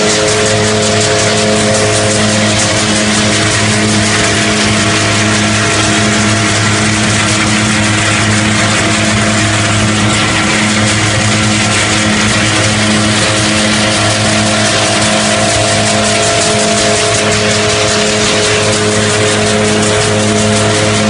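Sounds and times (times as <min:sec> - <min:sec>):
machine drive hum: 0:00.0 - 0:21.0.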